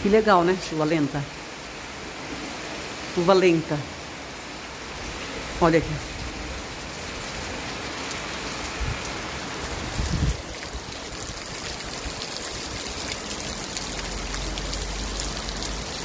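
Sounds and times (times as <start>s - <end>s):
heavy rain on wet street: 0.0s - 16.0s.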